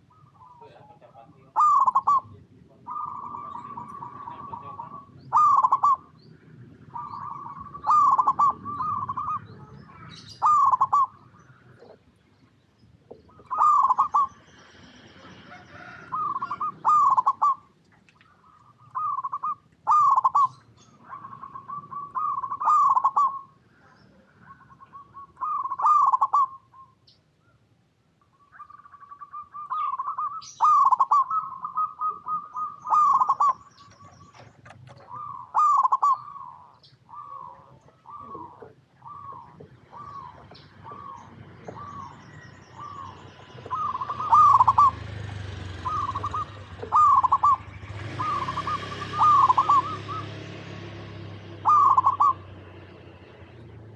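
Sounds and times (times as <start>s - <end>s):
doves cooing: 0.0s - 27.6s, 28.3s - 53.9s.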